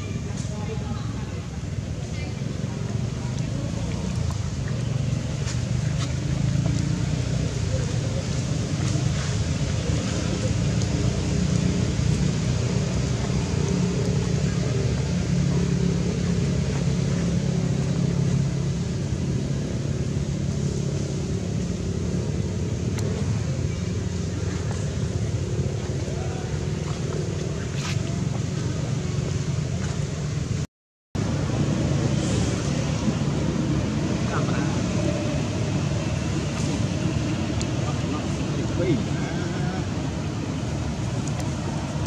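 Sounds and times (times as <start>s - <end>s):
engine rumbling: 0.0s - 42.0s.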